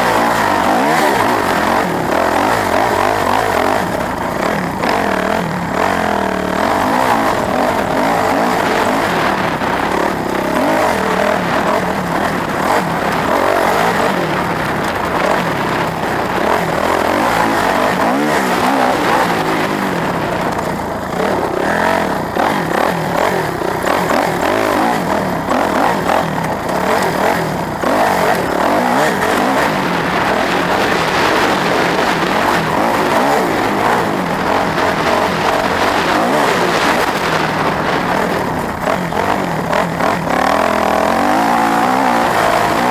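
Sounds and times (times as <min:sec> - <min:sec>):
vehicle engines revving: 0:00.0 - 0:42.9.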